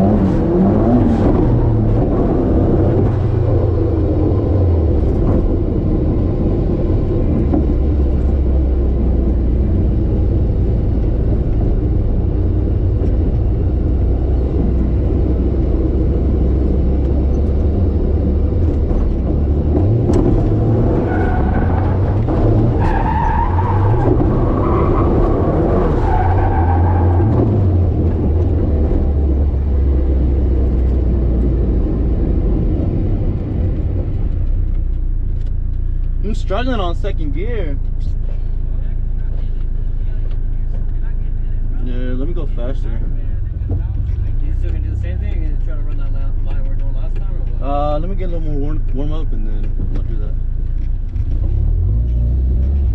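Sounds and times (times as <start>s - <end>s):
car engine running hard: 0.0s - 52.9s.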